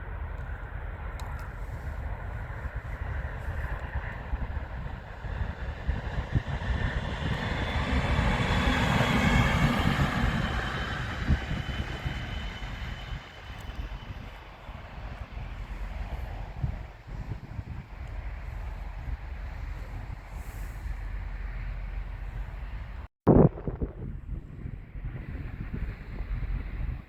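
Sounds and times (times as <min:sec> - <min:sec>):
train passing: 0:00.0 - 0:23.1
low rumble: 0:00.0 - 0:27.0.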